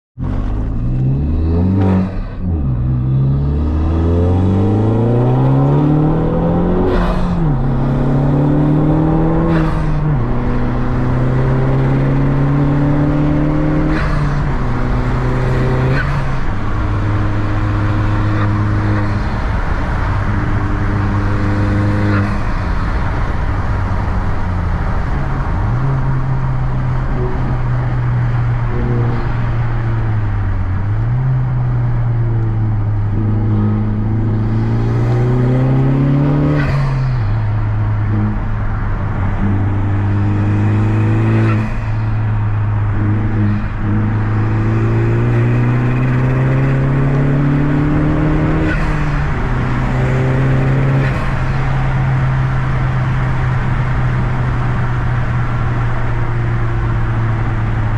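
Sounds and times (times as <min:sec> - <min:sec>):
turbocharged car engine under load: 0:00.2 - 0:57.9.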